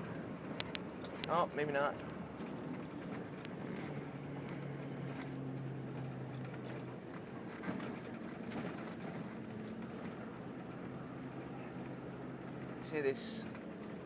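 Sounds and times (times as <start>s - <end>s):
car engine hum: 0.0s - 14.0s
road noise: 0.0s - 14.0s
small things rattling: 0.0s - 14.0s.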